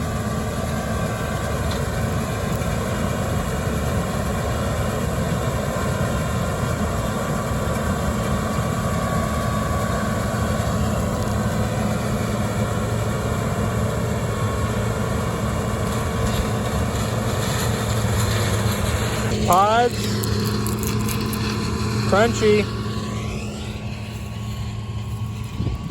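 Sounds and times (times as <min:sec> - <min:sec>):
combine harvester drone: 0:00.0 - 0:25.9.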